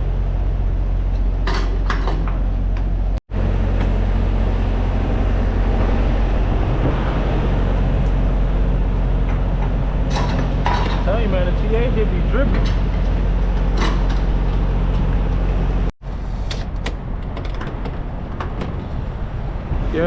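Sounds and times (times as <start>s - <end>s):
truck engine and road drone: 0.0s - 20.0s.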